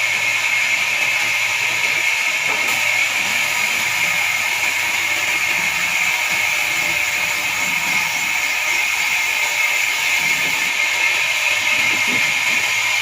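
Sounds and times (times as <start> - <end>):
band saw cutting log: 0.0 - 13.0.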